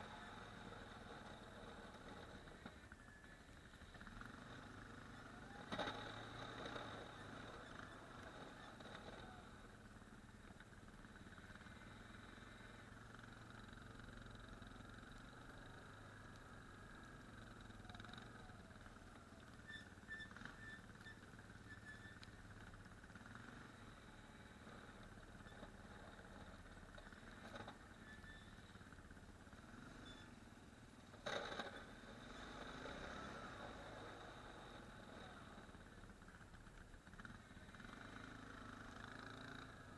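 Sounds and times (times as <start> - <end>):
atv engine running faintly: 0.0 - 39.9.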